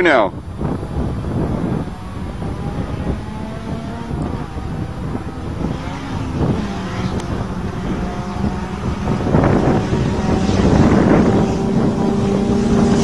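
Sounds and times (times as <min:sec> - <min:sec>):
wind buffeting microphone: 0:00.0 - 0:13.0
racing car engines: 0:00.3 - 0:13.0
tyre and ground noise: 0:00.5 - 0:13.0.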